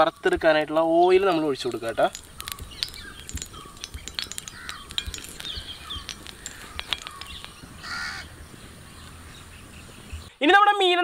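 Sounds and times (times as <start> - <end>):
wood fire crackling: 0.0 - 10.3
small birds chirping: 0.0 - 10.5.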